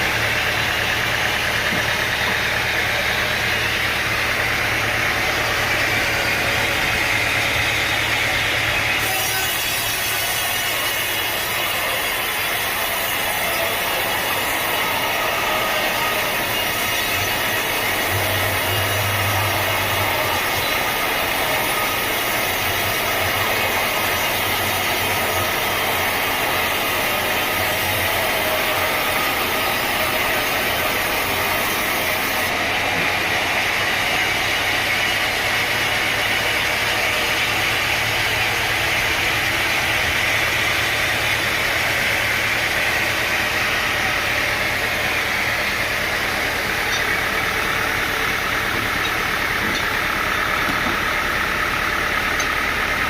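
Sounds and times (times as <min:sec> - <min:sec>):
motor hum: 0:10.5 - 0:53.0.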